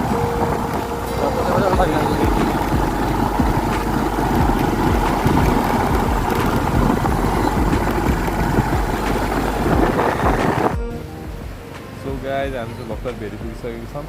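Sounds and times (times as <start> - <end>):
vehicle moving: 0.0 - 14.0
wind buffeting microphone: 0.0 - 14.0.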